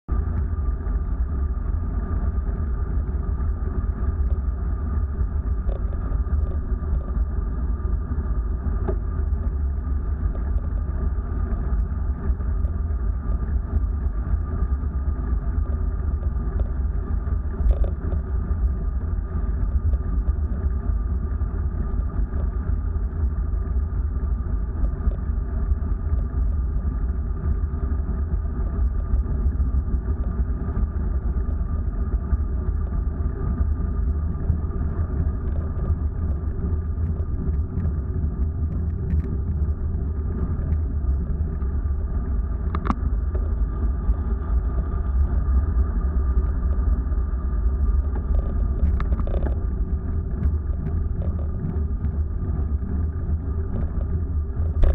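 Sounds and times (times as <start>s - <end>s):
faint steady whine: 0.0s - 54.9s
vehicle wind and road rumble: 0.0s - 54.9s.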